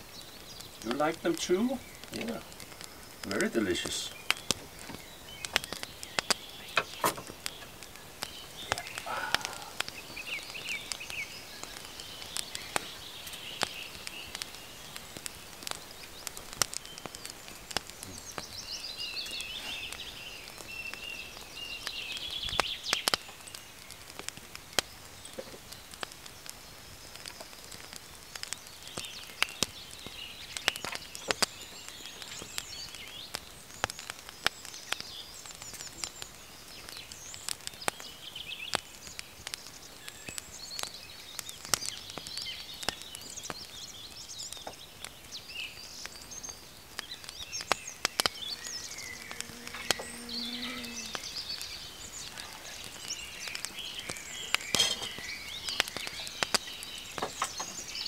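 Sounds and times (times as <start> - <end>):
birds singing chirpy trills: 0.0 - 58.0.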